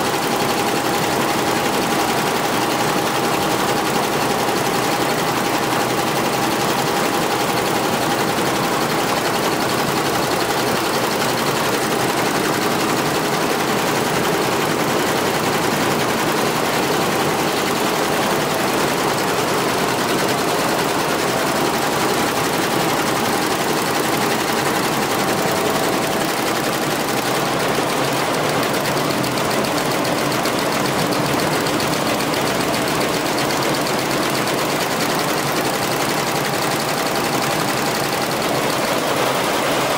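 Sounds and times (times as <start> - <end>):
embroidery machine clattering: 0.0 - 39.9.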